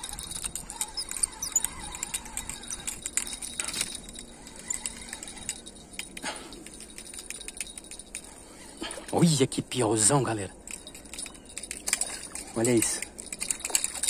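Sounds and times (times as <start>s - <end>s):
fishing reel clicking: 0.0s - 8.6s, 10.0s - 14.0s.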